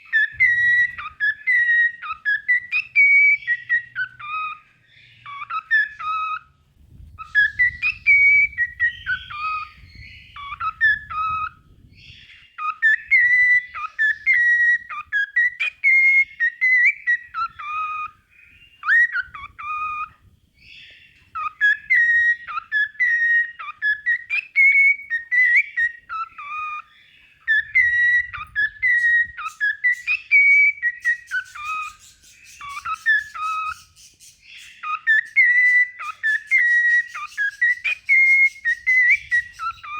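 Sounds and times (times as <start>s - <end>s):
cockatiel whistling: 0.0s - 6.5s, 7.1s - 39.9s.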